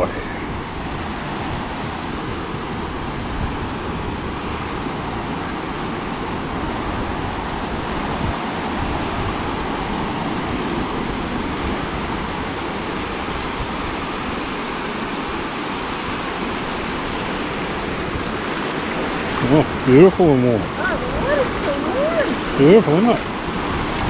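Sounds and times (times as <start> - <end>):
surf waves washing on beach: 0.0 - 24.0
wind rumbling on microphone: 0.0 - 24.0.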